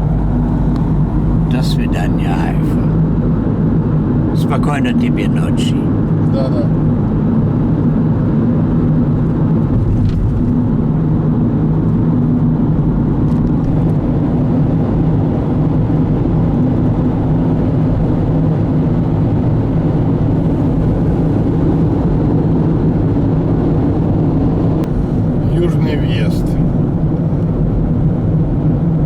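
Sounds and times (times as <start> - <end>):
car engine and road noise drone: 0.0 - 29.0.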